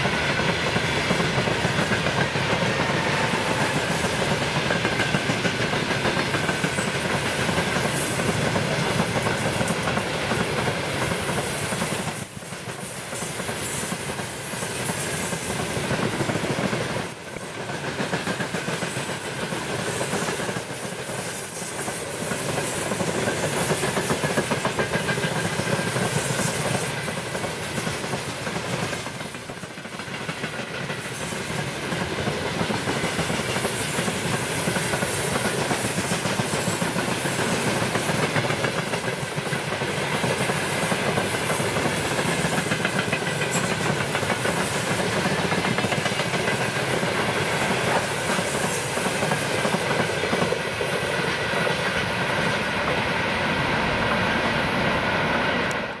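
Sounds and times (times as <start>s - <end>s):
freight train wheels clattering on rails: 0.0s - 56.0s.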